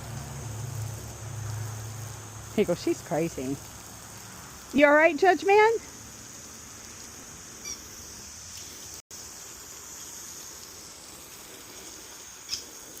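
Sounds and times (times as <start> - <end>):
high insect-like drone: 0.0 - 13.0
outdoor background hiss: 0.0 - 13.0.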